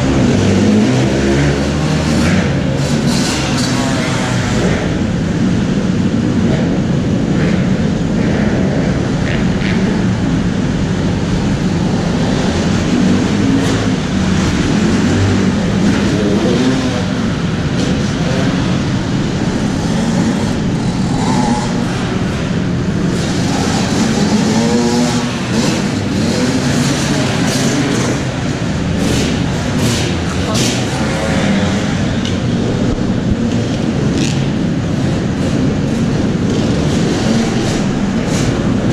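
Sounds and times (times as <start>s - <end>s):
motocross bikes revving: 0.0s - 38.9s.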